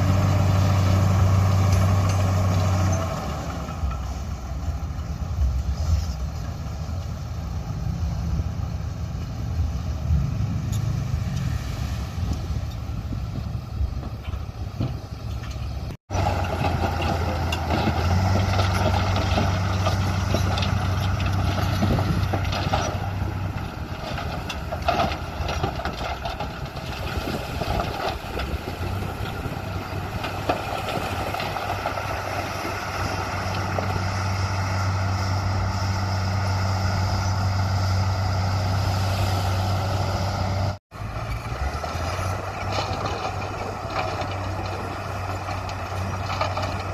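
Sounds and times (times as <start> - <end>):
diesel machinery engine drone: 0.0 - 46.9.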